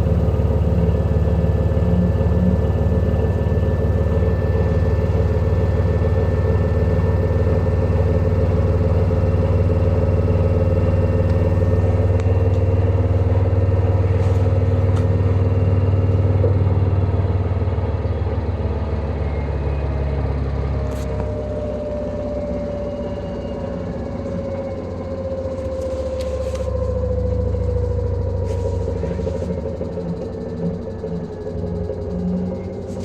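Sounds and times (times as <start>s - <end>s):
washing machine spin drone: 0.0s - 33.0s.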